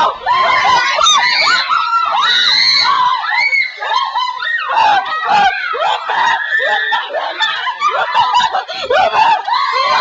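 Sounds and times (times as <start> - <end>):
people shrieking and laughing: 0.0 - 10.0.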